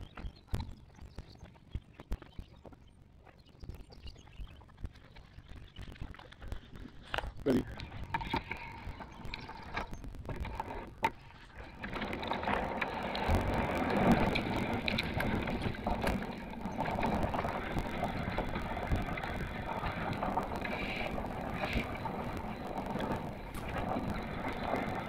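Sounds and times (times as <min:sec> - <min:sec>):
bike tyre and ride noise: 0:00.0 - 0:25.0.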